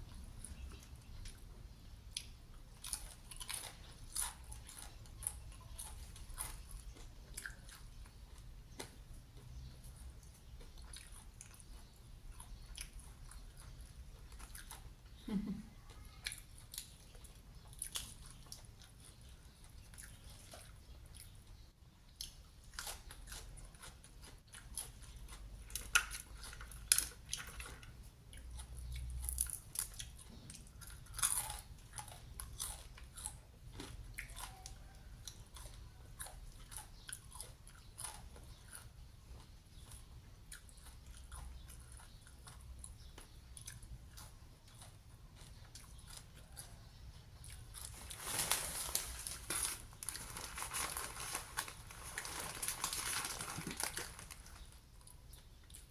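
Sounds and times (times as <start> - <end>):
person chewing crunchy food: 0.0 - 15.2, 15.9 - 55.9.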